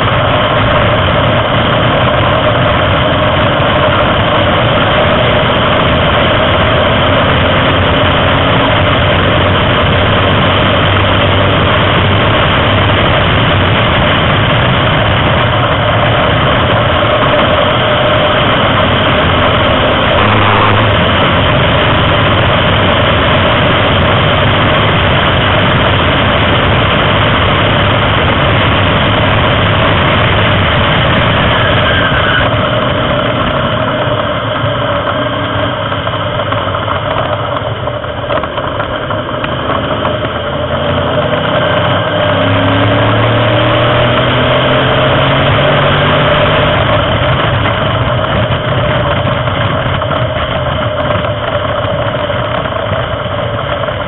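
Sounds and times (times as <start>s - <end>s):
racing car engine: 0.0s - 54.0s
wind and road noise: 0.0s - 54.0s.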